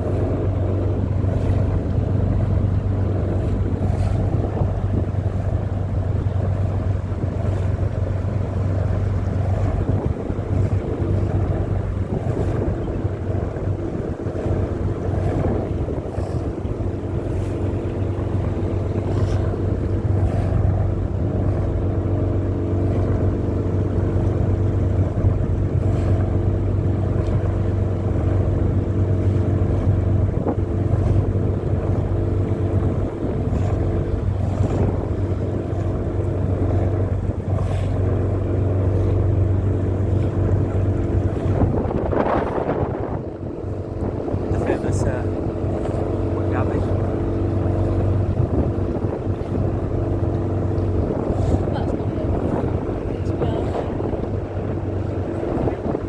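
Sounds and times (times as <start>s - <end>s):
steady motor drone: 0.0s - 56.0s
wind buffeting microphone: 0.0s - 56.0s.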